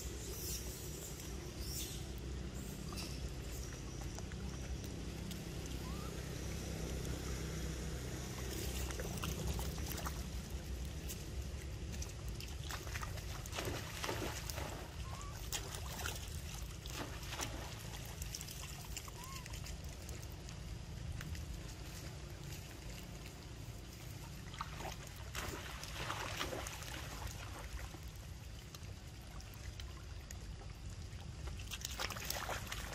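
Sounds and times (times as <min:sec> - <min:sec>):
floodwater flowing and sloshing: 0:00.0 - 0:32.9
monkey splashing in water: 0:01.2 - 0:20.5, 0:21.8 - 0:28.8, 0:31.5 - 0:32.9.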